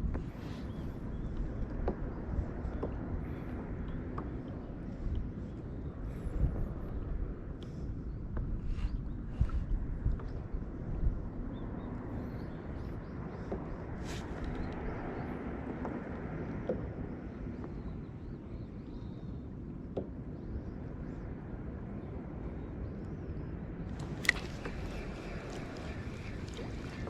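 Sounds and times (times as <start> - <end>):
wind and water rumble: 0.0 - 27.0.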